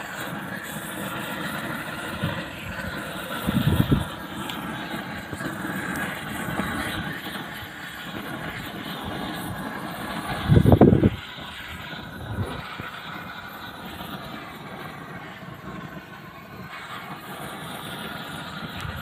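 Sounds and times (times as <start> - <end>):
gas torch burning: 0.0 - 19.0.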